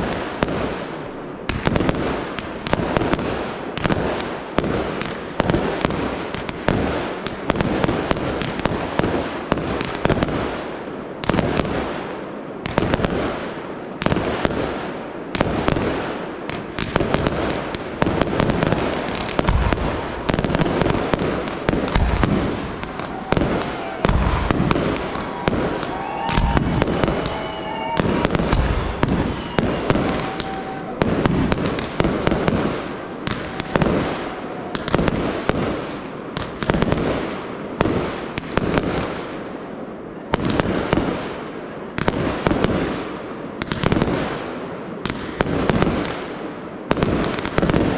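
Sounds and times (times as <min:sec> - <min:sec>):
firework bangs: 0:00.0 - 0:47.9
firework crackle: 0:00.0 - 0:47.9.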